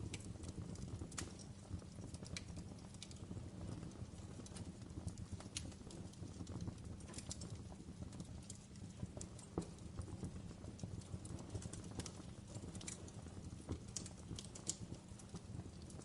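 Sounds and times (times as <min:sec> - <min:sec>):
campfire crackling and popping: 0:00.0 - 0:16.0
low rumble of burning: 0:00.0 - 0:16.0.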